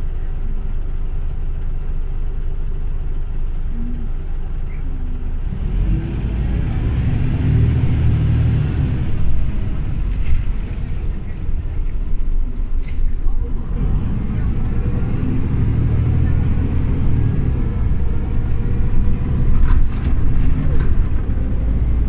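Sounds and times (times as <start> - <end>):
bus engine low drone: 0.0 - 22.0.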